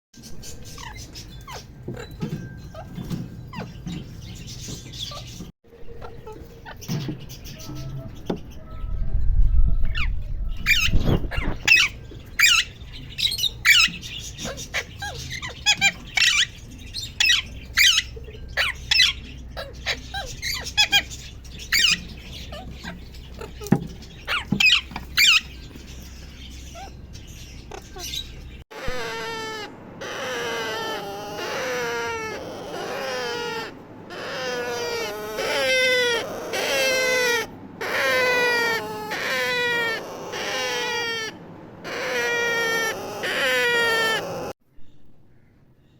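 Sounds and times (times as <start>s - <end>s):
parakeet squawking and calling: 0.3s - 8.8s, 9.8s - 44.6s.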